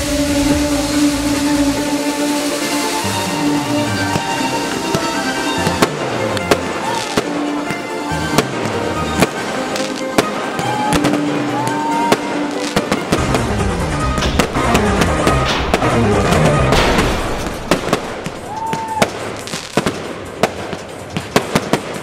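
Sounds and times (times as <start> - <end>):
fireworks bangs and crackles: 0.0 - 22.0
music: 0.0 - 22.0.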